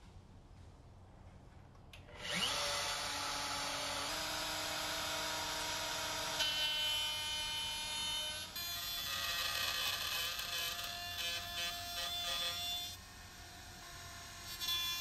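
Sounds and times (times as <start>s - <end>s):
wood router high whine: 2.1s - 15.0s.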